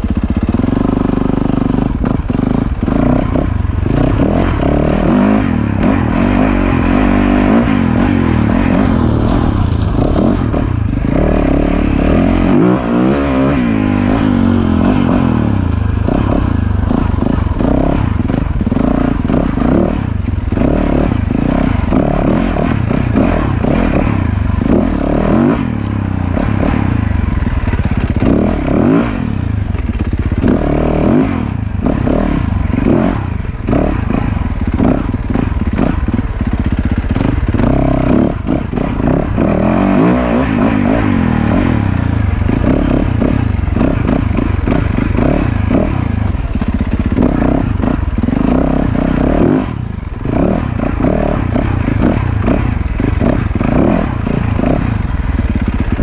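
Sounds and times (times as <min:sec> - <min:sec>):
dirt bike engine revving: 0:00.0 - 0:56.0
knocks and rattles from bike: 0:00.0 - 0:56.0.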